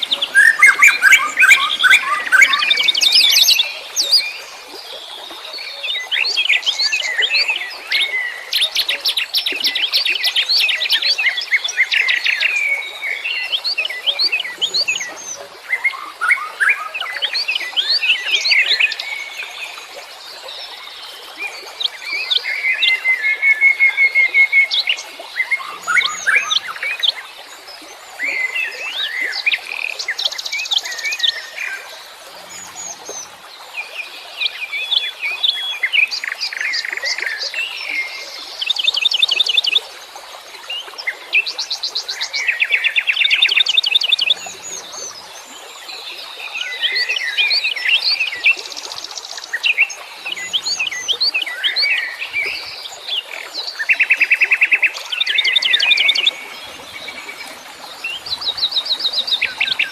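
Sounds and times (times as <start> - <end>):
songbirds singing and chirping: 0.0 - 39.9, 40.7 - 59.9.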